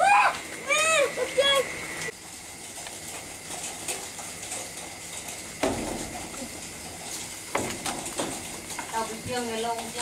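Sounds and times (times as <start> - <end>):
beetles crawling and rustling: 0.0 - 10.0.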